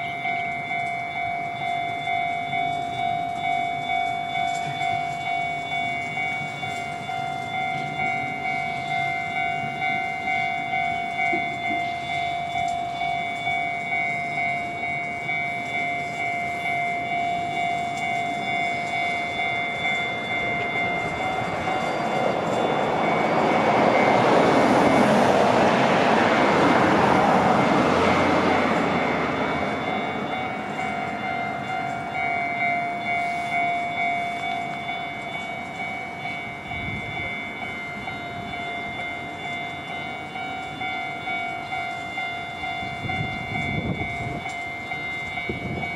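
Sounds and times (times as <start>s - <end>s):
level-crossing warning bell: 0.0s - 45.9s
train rumbling past: 0.0s - 45.9s.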